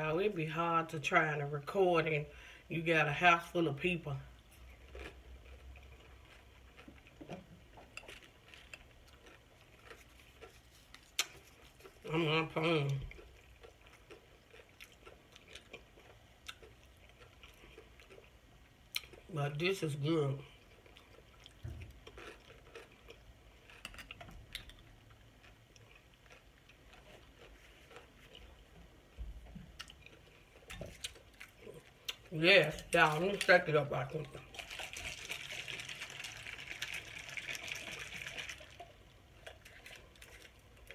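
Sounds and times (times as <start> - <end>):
chewing: 4.4 - 19.2, 20.5 - 33.5, 34.2 - 40.9.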